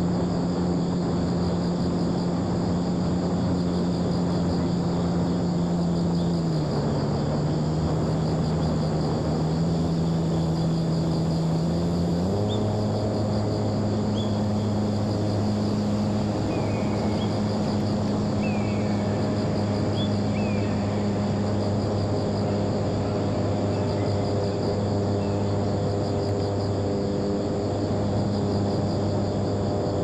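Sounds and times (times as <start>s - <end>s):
model airplane motor droning: 0.0s - 30.0s.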